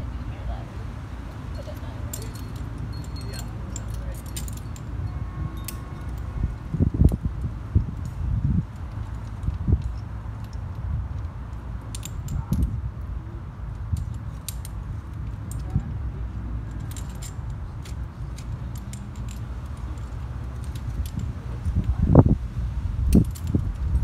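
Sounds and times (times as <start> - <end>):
steady low rumble: 0.0 - 24.0
metal climbing gear clinking: 1.3 - 22.3, 23.0 - 24.0.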